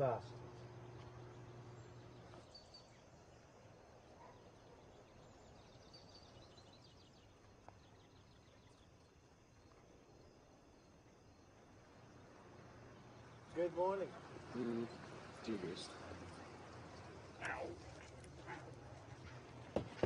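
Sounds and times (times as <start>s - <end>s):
distant bird chirps: 0.0s - 20.0s.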